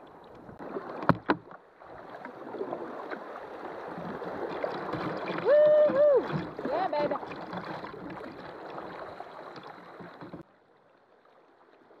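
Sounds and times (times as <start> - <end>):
water rushing around kayak: 0.0 - 12.0.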